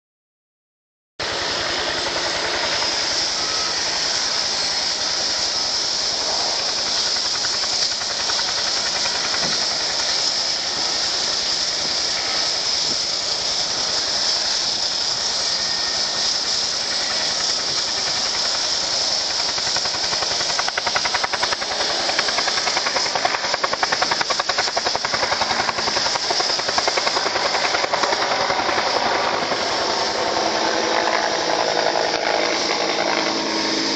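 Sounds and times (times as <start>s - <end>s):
helicopter rotor beat: 1.2s - 33.9s
helicopter turbine hiss: 1.2s - 33.9s.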